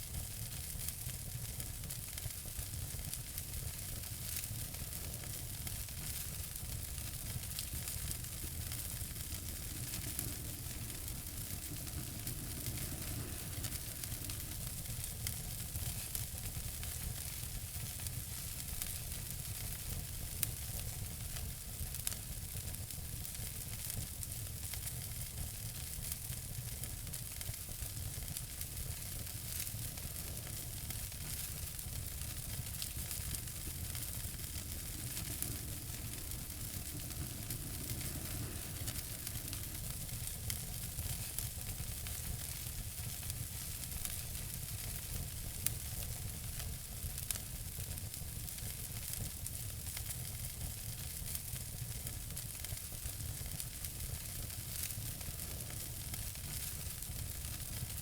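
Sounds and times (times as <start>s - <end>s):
fire crackles and pops: 0.0s - 58.0s
fire hissing: 0.0s - 58.0s.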